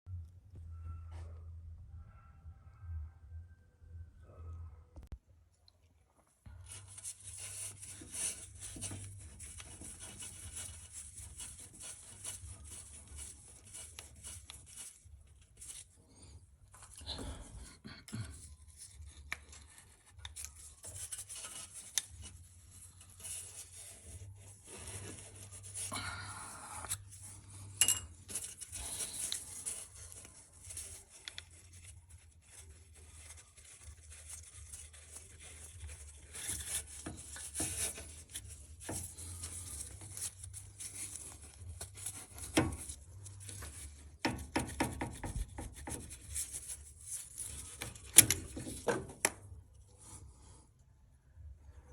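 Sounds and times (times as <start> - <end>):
rubbing and scraping: 6.5 - 50.6.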